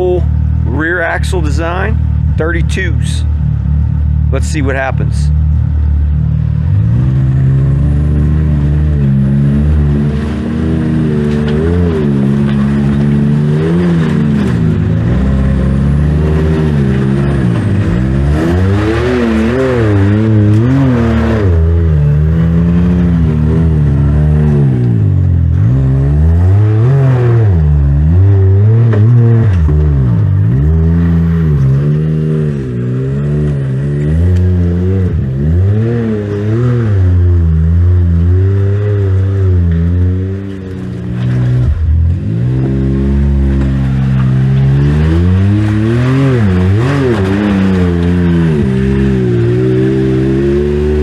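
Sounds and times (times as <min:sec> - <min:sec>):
engine revving hard: 0:06.5 - 0:51.0.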